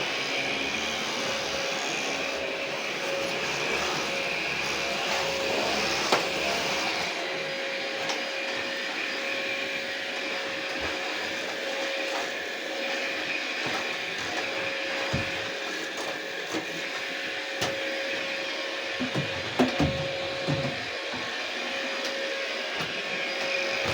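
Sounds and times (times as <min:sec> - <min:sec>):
vacuum cleaner motor whine: 0:00.0 - 0:23.9.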